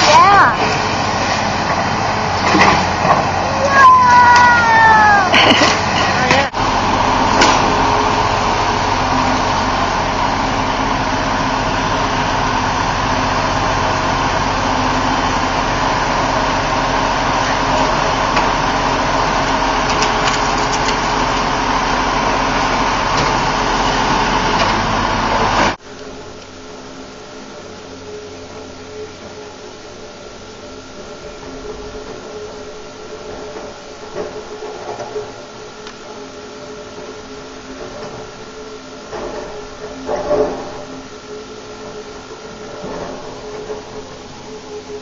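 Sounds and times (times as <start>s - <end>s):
demolition machine engine running: 0.0s - 45.0s
steady hum: 0.0s - 45.0s.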